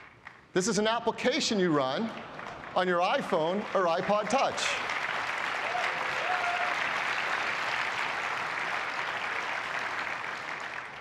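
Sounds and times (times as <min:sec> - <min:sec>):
audience applauding: 0:01.7 - 0:11.0.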